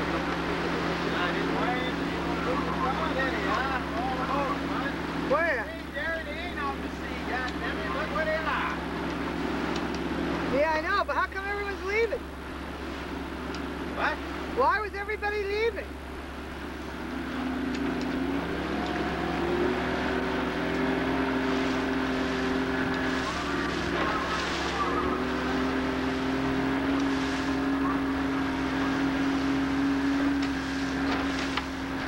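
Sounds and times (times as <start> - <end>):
motorboat engine running: 0.0 - 32.0
water rushing past hull: 0.0 - 32.0.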